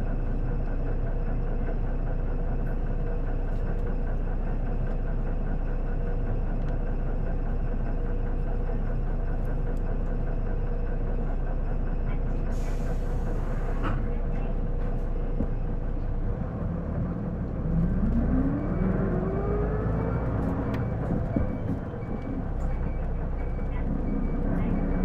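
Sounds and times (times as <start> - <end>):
bus diesel engine idling: 0.0 - 25.0.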